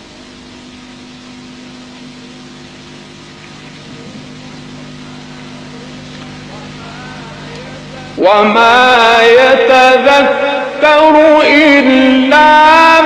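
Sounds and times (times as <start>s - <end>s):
low even hum: 0.0s - 13.0s
recording hiss: 0.0s - 13.0s.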